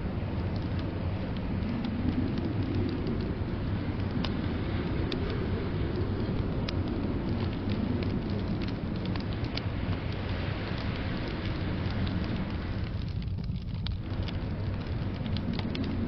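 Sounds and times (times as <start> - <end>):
fire crackling and popping: 0.0 - 16.0
rain rushing: 0.0 - 16.0.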